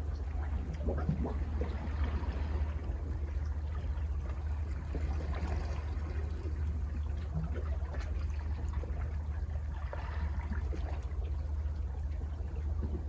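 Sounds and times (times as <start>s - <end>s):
water crackles: 0.0s - 13.0s.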